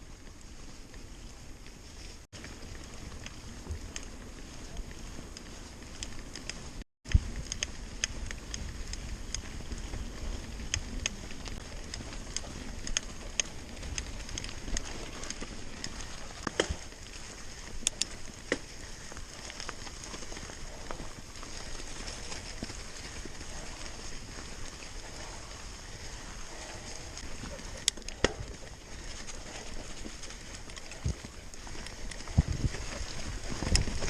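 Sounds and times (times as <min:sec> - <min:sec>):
wind and tyre rumble: 0:00.0 - 0:34.0
bike clicks and rattles: 0:00.1 - 0:34.0.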